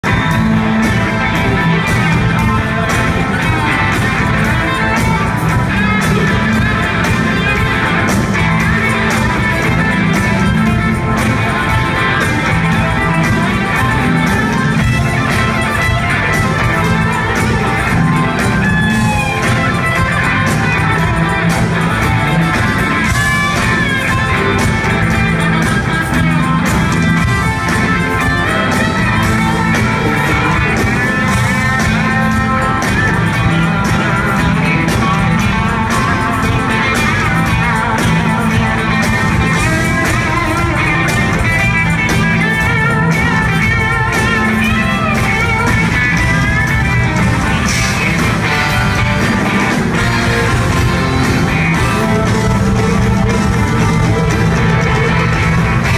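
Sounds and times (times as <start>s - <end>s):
electric guitar lines: 0.0s - 55.9s
live rock band playing: 0.0s - 55.9s.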